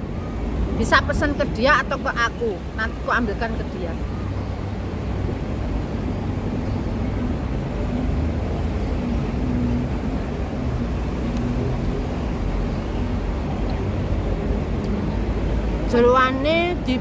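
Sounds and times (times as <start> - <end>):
faint wavering engine hum: 0.0 - 17.0
low rumble of motor traffic: 0.0 - 17.0.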